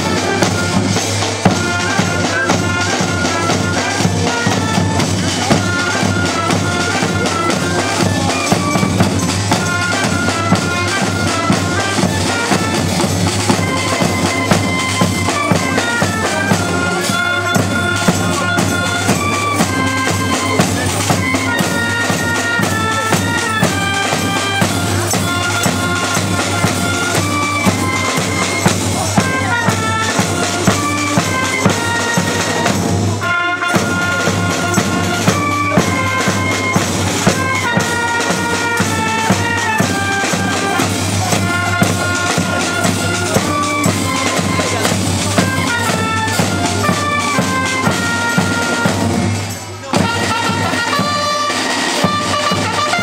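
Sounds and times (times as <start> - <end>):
bass and snare drums marching: 0.0 - 53.0.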